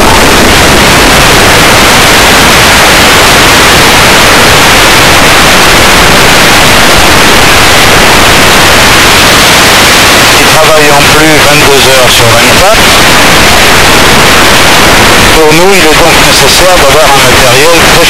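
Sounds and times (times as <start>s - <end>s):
loud static hiss: 0.0s - 18.0s.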